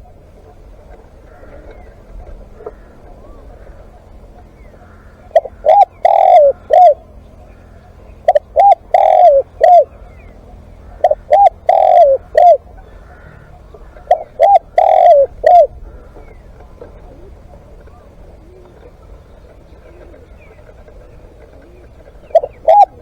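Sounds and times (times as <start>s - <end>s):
dove cooing: 0.0s - 23.0s.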